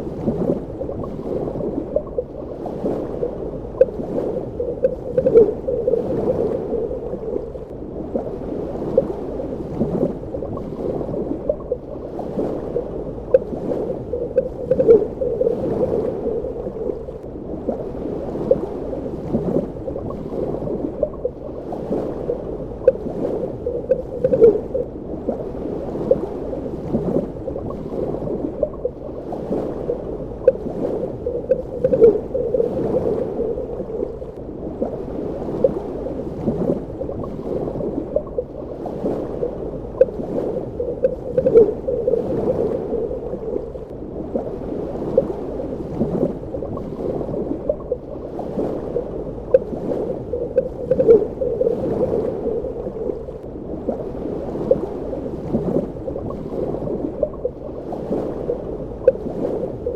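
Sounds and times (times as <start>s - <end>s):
bubbly gurgles: 0.0s - 25.5s, 26.1s - 59.9s
muffled underwater churning: 0.0s - 59.9s.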